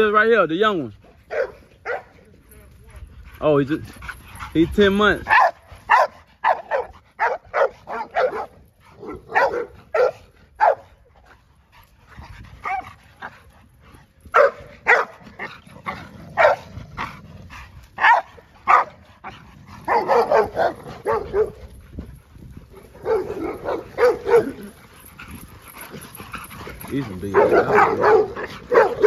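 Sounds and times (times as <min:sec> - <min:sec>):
large dogs barking: 0:00.0 - 0:02.2, 0:03.5 - 0:11.4, 0:12.5 - 0:13.5, 0:14.2 - 0:21.8, 0:22.6 - 0:29.0.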